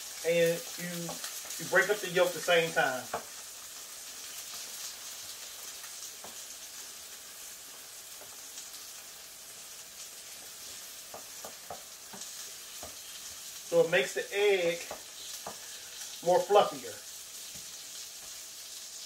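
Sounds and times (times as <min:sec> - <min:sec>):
eggs sizzling on a griddle: 0:00.0 - 0:19.0.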